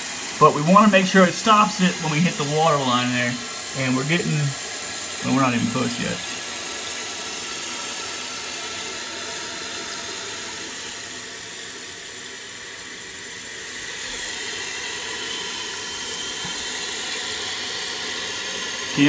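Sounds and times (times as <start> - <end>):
water hissing into toilet tank: 0.0 - 19.0.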